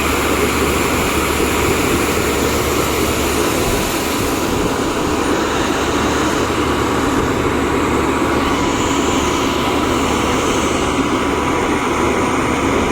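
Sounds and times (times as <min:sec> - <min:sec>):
drilling rig engine noise: 0:00.0 - 0:12.9.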